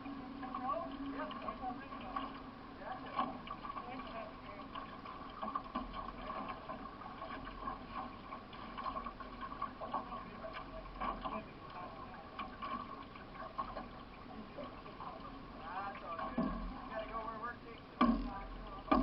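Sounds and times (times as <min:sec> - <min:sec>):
paddle stroke splashes: 0:00.0 - 0:19.0
water splashing around canoe: 0:00.0 - 0:19.0.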